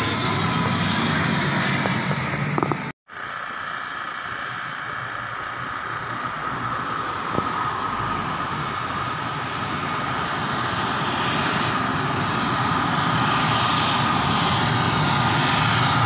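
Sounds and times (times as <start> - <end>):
distant jet engines approaching: 0.0 - 16.0
turboprop engine drone with whine: 0.0 - 16.0.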